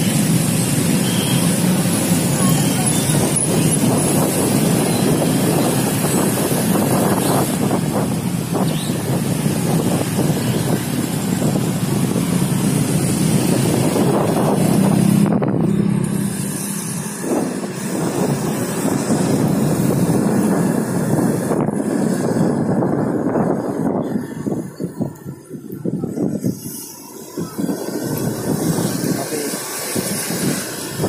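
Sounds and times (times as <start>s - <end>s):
road traffic: 0.0s - 31.0s
vehicle engine: 0.0s - 31.0s
wind buffeting microphone: 0.0s - 31.0s.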